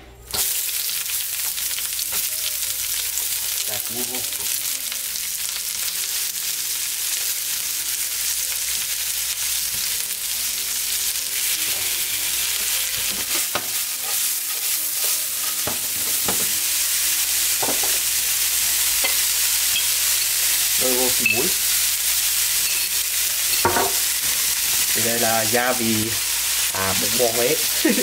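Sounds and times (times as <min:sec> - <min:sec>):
vegetables sizzling in oil: 0:00.3 - 0:28.0.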